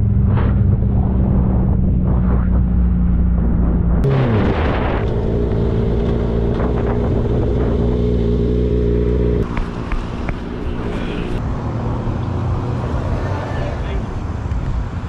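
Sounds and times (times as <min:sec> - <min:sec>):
engine running: 0:00.0 - 0:12.4.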